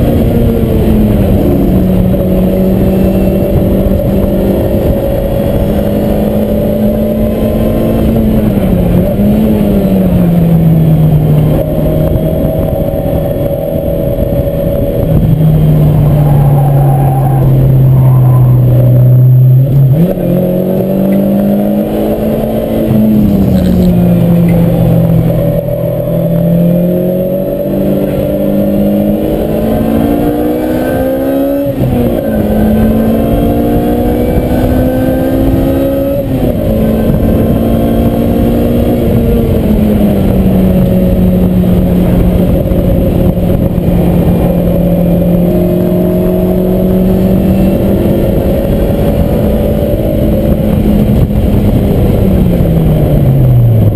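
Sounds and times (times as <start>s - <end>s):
car engine accelerating: 0.0s - 53.9s
road and wind noise: 0.0s - 53.9s.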